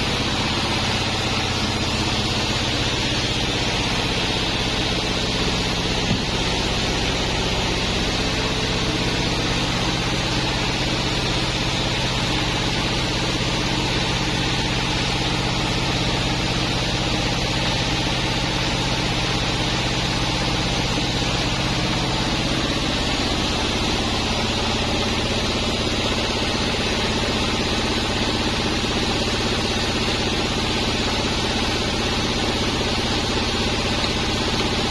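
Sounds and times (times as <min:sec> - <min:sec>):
bandsaw running: 0:00.0 - 0:34.9.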